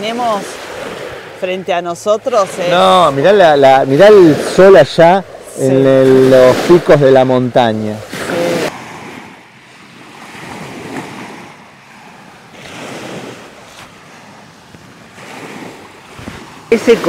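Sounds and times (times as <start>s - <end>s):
waves breaking on a beach: 0.0s - 17.0s
wind: 0.0s - 17.0s.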